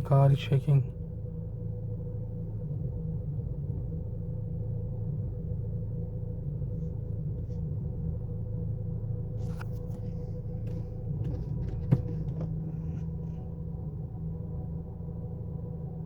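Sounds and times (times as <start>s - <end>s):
car engine idling rough: 0.0s - 16.0s.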